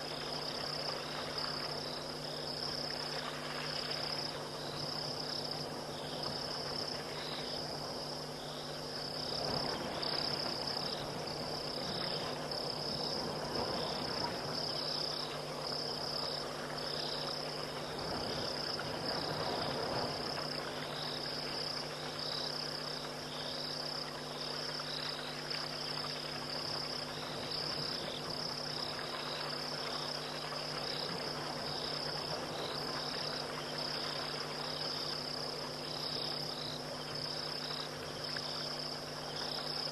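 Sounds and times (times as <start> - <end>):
crickets trilling: 0.0 - 39.9
low steady hum: 0.0 - 39.9
lower pulsing cricket chirp: 0.0 - 39.9.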